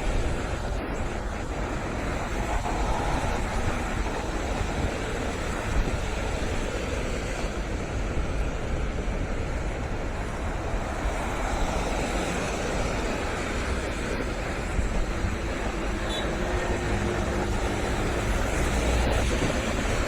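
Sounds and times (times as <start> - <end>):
sea roaring: 0.0 - 20.0
stormy wind roaring: 0.0 - 20.0
wind buffeting microphone: 0.0 - 20.0.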